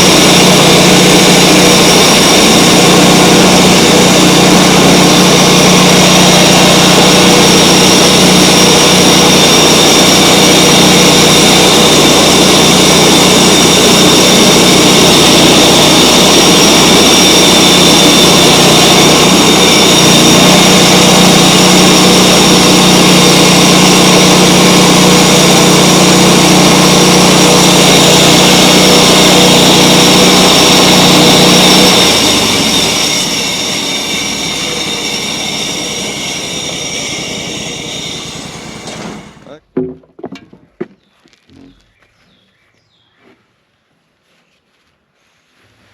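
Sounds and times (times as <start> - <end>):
high whine: 0.0 - 39.6
sawmill engine running: 0.0 - 39.6.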